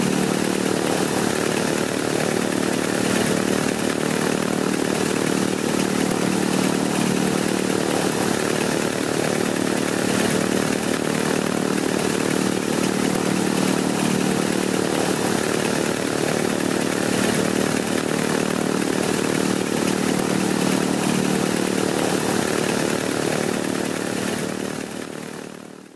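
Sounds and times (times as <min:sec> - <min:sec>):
radial aircraft engine running: 0:00.0 - 0:25.9.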